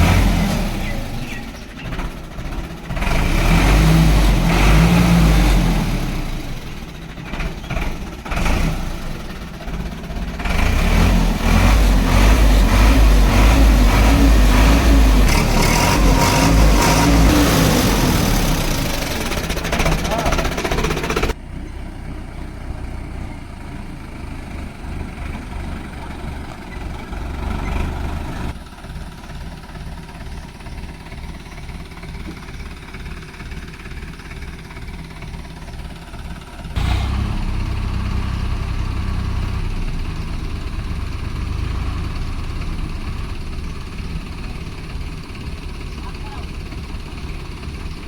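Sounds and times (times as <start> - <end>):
diesel tractor engines running: 0.0 - 48.0.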